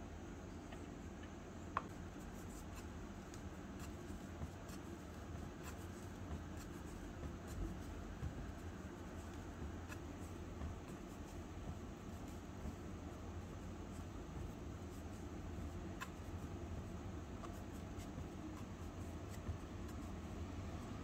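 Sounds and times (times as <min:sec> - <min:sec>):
steady low hum: 0:00.0 - 0:21.0
dough rubbing on fabric mat: 0:01.8 - 0:21.0.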